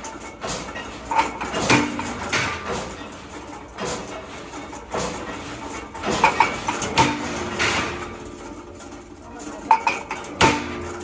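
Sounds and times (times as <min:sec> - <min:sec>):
metal clanks and knocks: 0:00.0 - 0:11.0.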